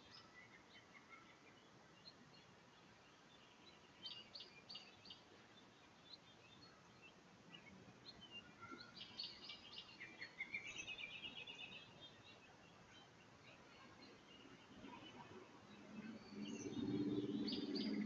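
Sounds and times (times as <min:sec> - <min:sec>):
songbird chirps and trill: 0:00.0 - 0:18.0.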